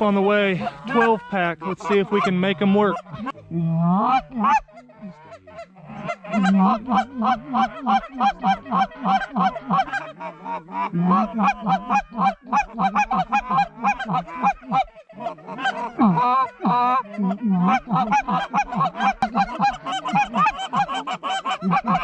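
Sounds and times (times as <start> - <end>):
deep moaning goose call notes: 0.0 - 22.0
goose call clucks and honks: 0.0 - 22.0.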